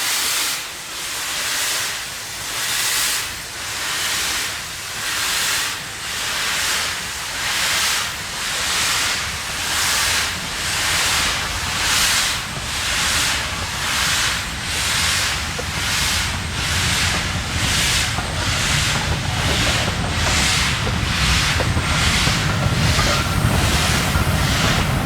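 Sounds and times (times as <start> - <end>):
steam locomotive exhaust chuffs: 0.1 - 25.0
low train rumble: 0.7 - 25.0.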